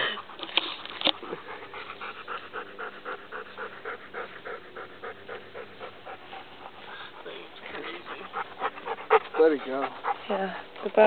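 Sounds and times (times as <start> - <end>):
rapid panting: 1.2 - 11.0.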